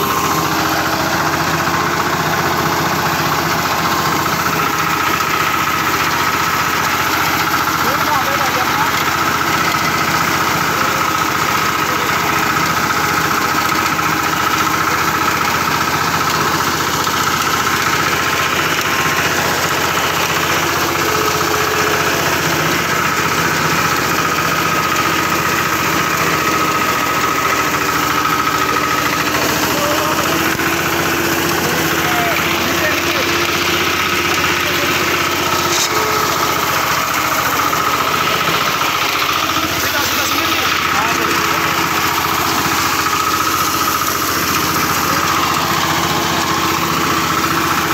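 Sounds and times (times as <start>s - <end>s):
cutter bar mowing wheat: 0.0s - 47.9s
petrol reaper engine running: 0.0s - 47.9s.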